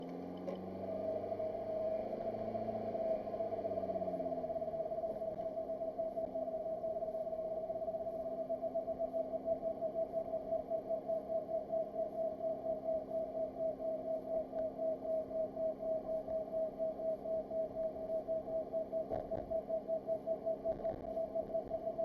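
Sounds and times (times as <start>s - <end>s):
drivetrain whine: 0.0s - 22.0s.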